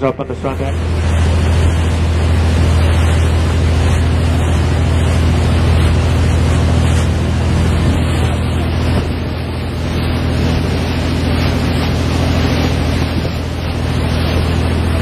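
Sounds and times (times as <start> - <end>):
boat engine drone: 0.0 - 15.0
wake water rushing: 0.0 - 15.0
wind buffeting microphone: 0.0 - 15.0.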